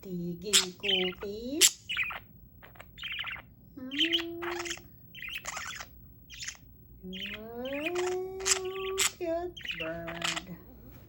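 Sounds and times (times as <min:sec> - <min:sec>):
budgerigars chirping: 0:00.4 - 0:10.6.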